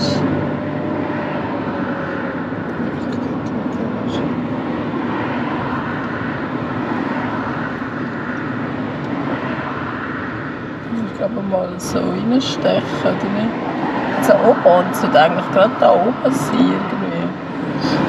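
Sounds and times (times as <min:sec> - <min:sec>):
car engine and tyre noise: 0:00.0 - 0:18.0.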